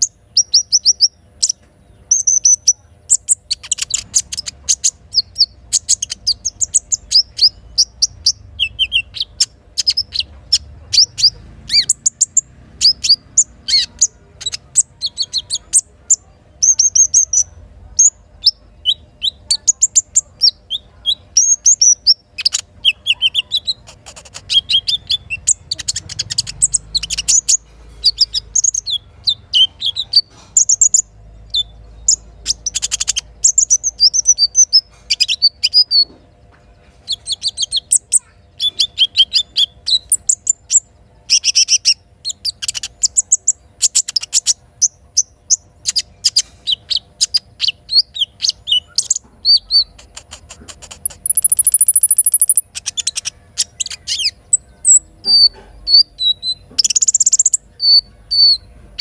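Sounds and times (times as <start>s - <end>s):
bird chirps and trills: 0.0s - 59.0s.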